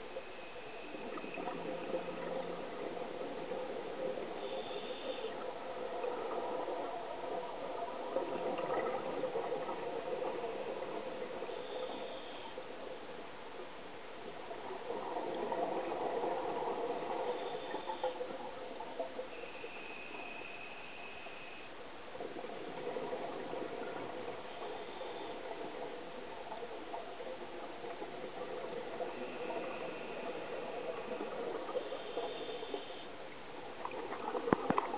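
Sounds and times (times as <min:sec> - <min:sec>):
underwater rumbling hiss: 0:00.0 - 0:13.2, 0:14.4 - 0:34.9.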